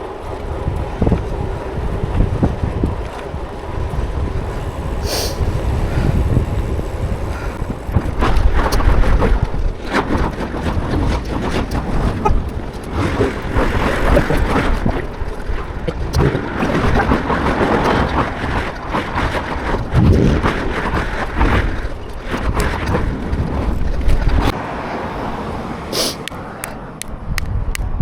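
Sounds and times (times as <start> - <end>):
road noise: 0.0 - 19.9, 21.2 - 28.0
wind buffeting microphone: 0.0 - 28.0.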